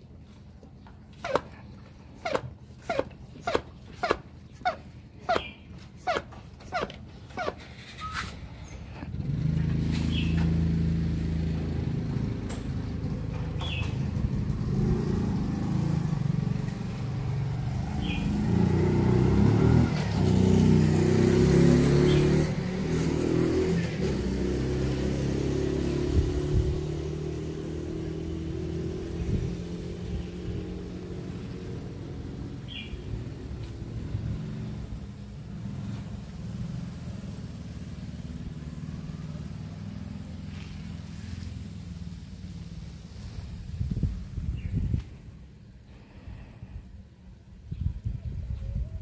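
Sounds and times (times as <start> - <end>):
engine running: 0.0 - 46.8.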